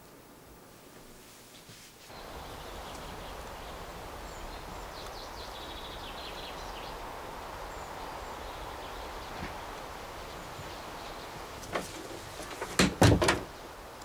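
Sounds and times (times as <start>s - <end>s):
steady outdoor hush: 0.0s - 14.0s
small birds chirping: 2.1s - 14.0s.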